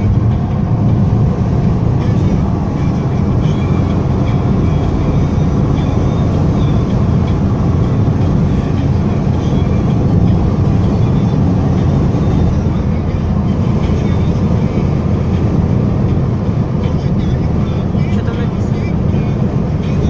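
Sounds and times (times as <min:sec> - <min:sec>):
car engine rumble: 0:00.0 - 0:20.0
tyres on the road: 0:00.0 - 0:20.0.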